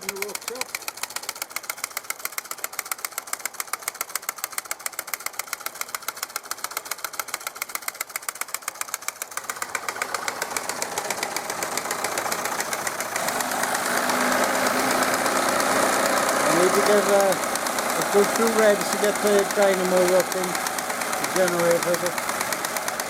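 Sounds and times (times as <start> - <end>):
toy steam engine chuffing: 0.0 - 23.0.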